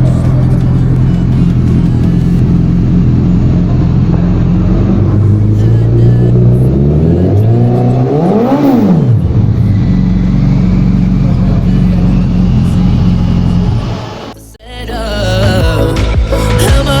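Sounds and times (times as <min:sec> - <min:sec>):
vehicle engine idling and revving: 0:00.0 - 0:17.0.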